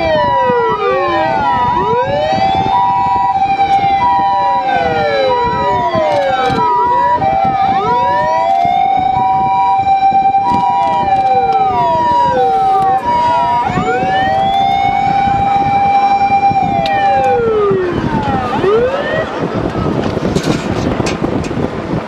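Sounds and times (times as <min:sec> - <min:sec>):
two-note hi-lo ambulance siren: 0:00.0 - 0:19.4
fire engine sirens wailing: 0:00.0 - 0:20.2.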